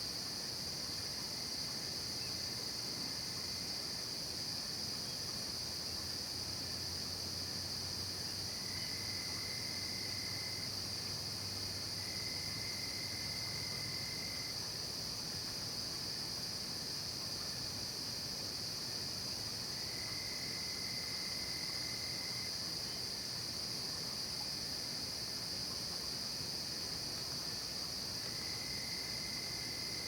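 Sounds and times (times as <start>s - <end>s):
low insect trill: 0.0s - 30.0s.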